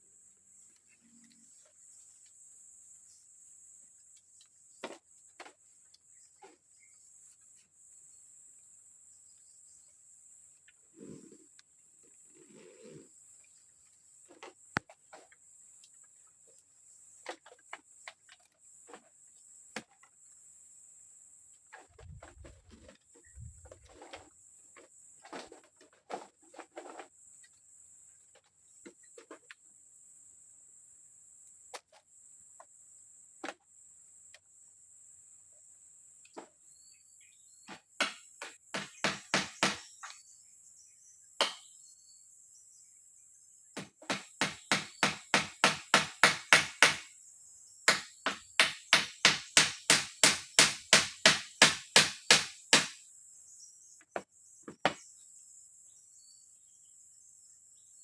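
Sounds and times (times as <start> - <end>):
forest insects buzzing: 0.0 - 58.0.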